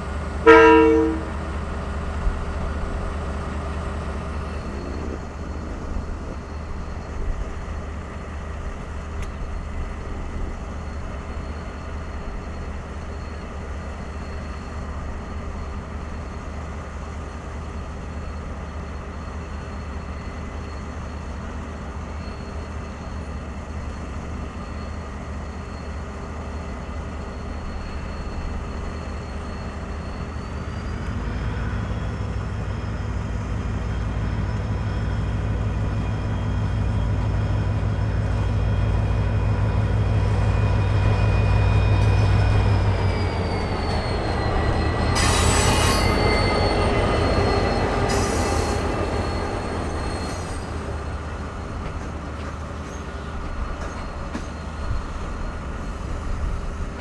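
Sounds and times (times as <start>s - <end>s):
electric locomotive rumble: 0.0s - 57.0s.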